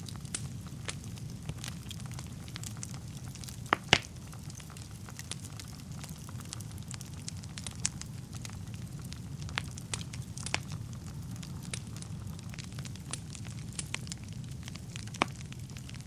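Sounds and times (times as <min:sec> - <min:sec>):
fire crackling: 0:00.0 - 0:16.0
fire rumbling: 0:00.0 - 0:16.0
loud fire pops: 0:00.0 - 0:16.0.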